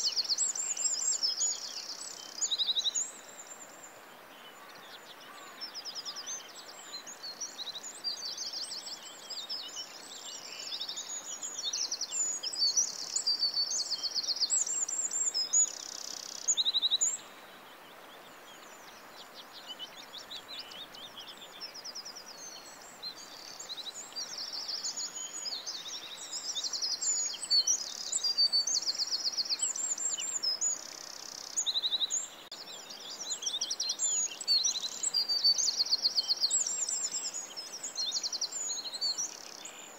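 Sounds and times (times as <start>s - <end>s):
faint outdoor hiss: 0.0s - 39.9s
songbirds chirping and trilling: 0.0s - 39.9s.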